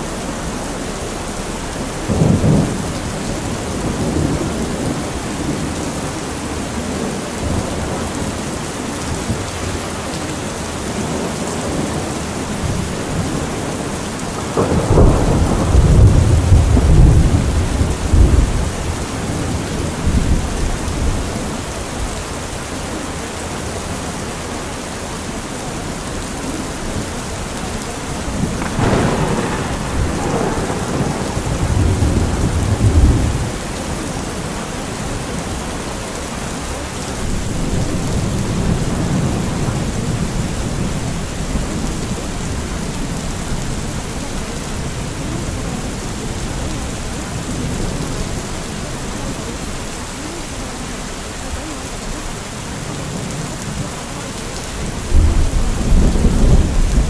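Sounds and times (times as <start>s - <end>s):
thunder rumbling: 0.0s - 10.2s, 10.8s - 21.8s, 25.9s - 50.4s, 54.6s - 57.0s
steady rain: 0.0s - 57.0s.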